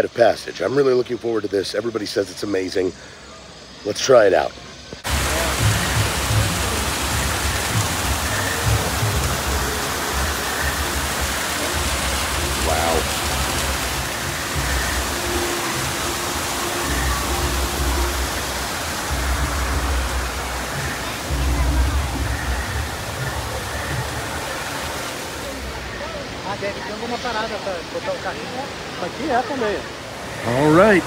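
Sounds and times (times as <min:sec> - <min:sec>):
faint music: 0:00.0 - 0:31.0
rush of falling water: 0:00.0 - 0:31.0.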